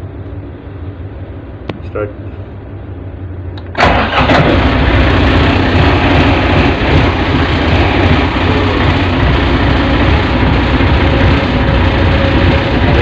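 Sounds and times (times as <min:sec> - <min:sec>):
marine diesel engine running: 0:00.0 - 0:13.0.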